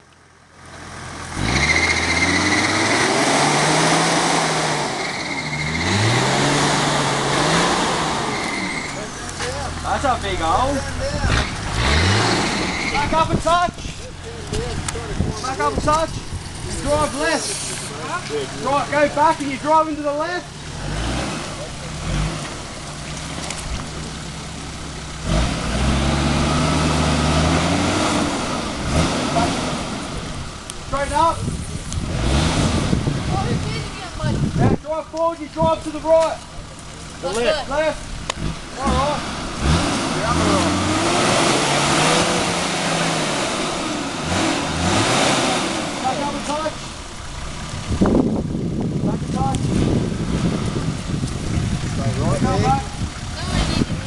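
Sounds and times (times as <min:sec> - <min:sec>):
vehicle engine pulling away: 0:00.0 - 0:54.0.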